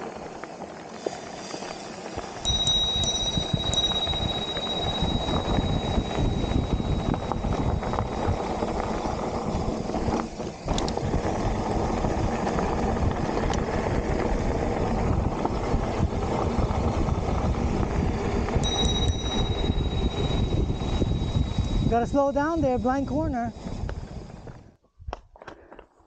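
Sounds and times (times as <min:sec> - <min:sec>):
bike tyres rumbling and rattling: 0:00.0 - 0:26.0
thin high whine: 0:01.0 - 0:14.0, 0:14.6 - 0:24.8
wind buffeting microphone: 0:02.2 - 0:25.2.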